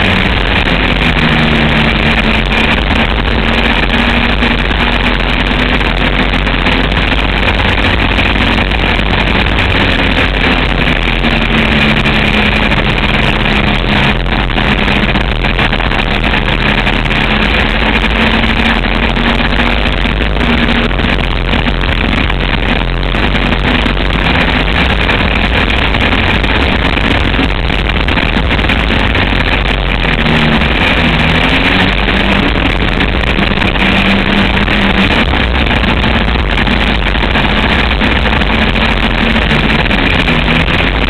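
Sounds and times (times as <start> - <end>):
road noise: 0.0 - 41.0
trike engine running: 0.0 - 41.0
wind noise: 0.0 - 41.0.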